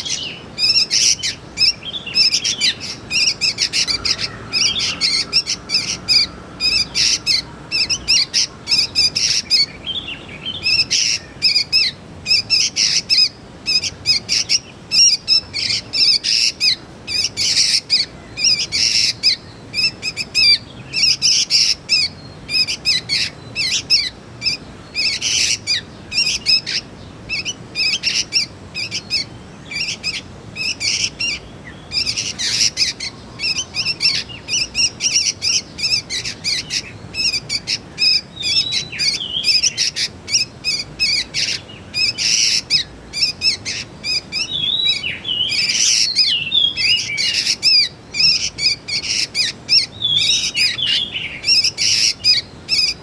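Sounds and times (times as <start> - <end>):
birds chirping shrilly: 0.0 - 53.0.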